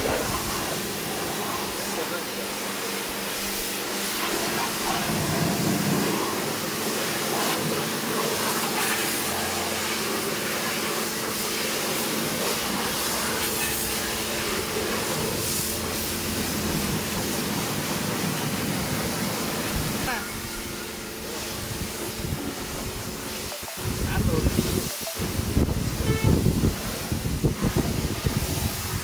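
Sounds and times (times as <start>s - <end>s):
pump motor humming: 0.0s - 29.0s
water jet spraying on car: 0.0s - 29.0s.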